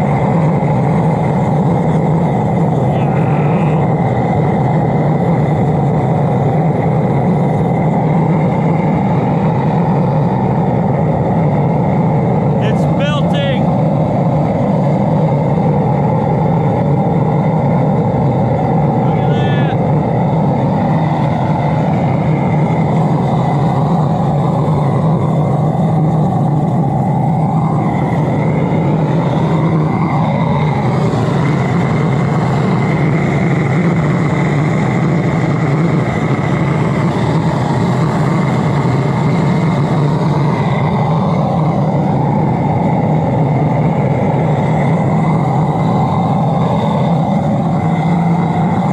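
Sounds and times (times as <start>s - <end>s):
diesel burner roaring: 0.0s - 48.9s.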